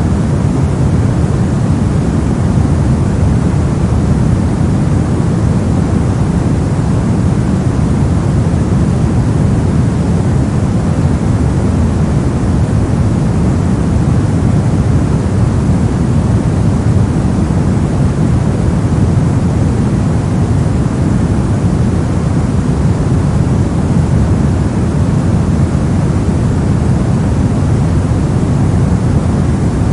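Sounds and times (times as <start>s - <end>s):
deep white noise: 0.0s - 29.9s.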